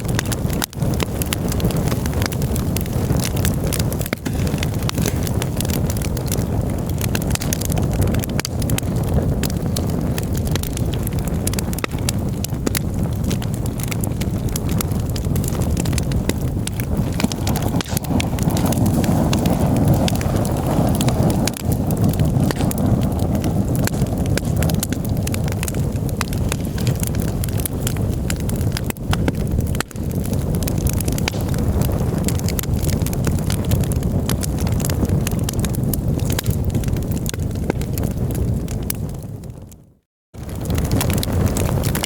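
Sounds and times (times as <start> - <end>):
campfire crackling and popping: 0.0 - 42.0
fire low rumble: 0.0 - 42.0.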